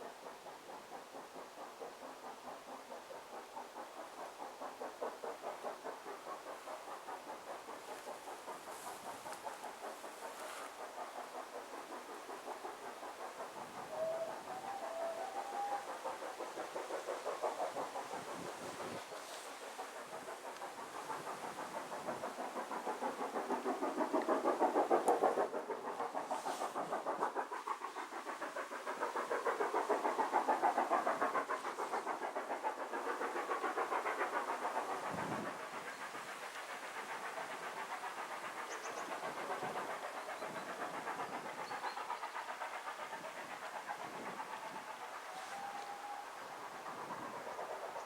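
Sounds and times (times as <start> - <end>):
train running past: 0.0 - 48.0.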